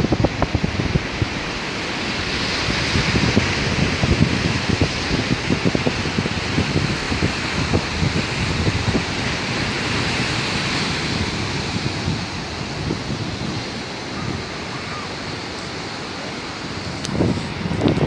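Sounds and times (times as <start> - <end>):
sea waves breaking on rocks: 0.0 - 18.0
wind buffeting the microphone: 0.0 - 18.0.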